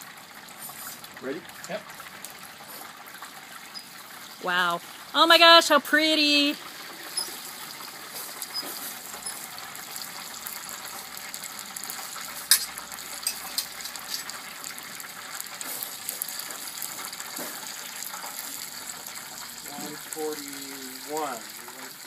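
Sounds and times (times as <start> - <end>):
hot oil sizzling and crackling: 0.0 - 22.0.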